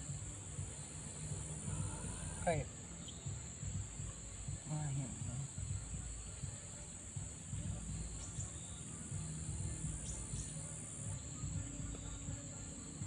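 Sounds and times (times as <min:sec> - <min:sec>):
insects droning: 0:00.0 - 0:13.0
short insect chirps: 0:00.0 - 0:13.0.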